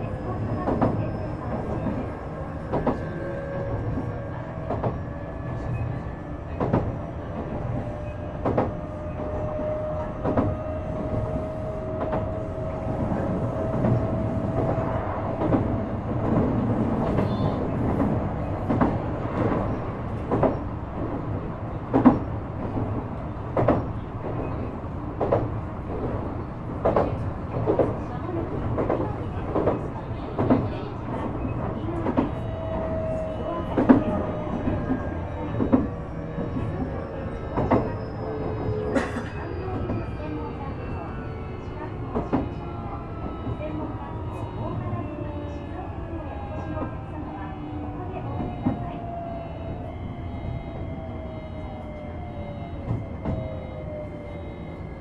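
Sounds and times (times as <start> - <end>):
train running rumble: 0.0 - 45.4.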